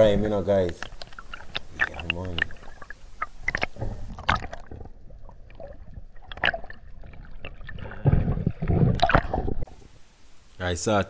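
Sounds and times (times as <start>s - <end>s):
underwater gurgling and bubbling: 0.8s - 9.7s.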